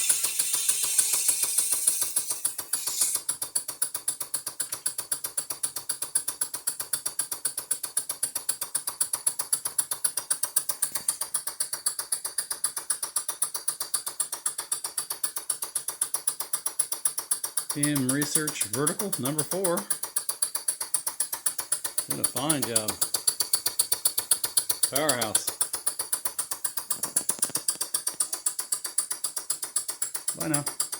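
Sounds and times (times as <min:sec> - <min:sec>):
quick even clicking beat: 0:00.0 - 0:30.9
steam engine running: 0:00.0 - 0:30.9.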